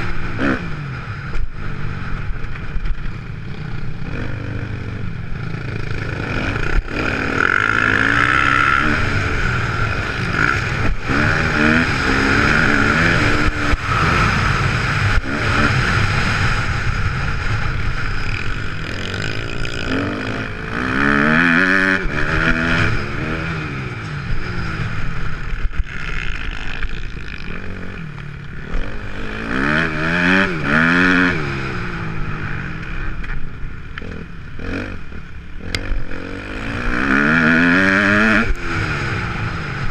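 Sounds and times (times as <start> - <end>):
motocross bike engine revving: 0.0 - 33.4, 34.0 - 39.9.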